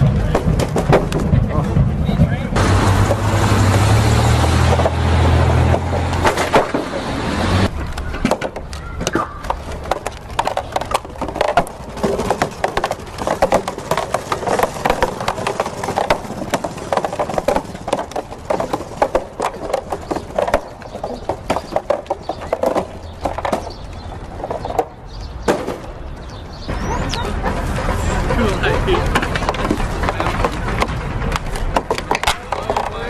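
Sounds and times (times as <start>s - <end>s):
wooden gear clacking: 0.0s - 33.0s.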